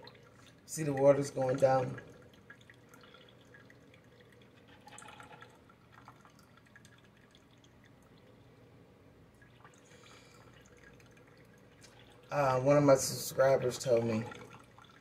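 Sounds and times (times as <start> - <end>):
coffee dripping into a mug: 0.0 - 8.6, 9.3 - 12.6, 13.4 - 15.0
low steady hum: 0.0 - 15.0.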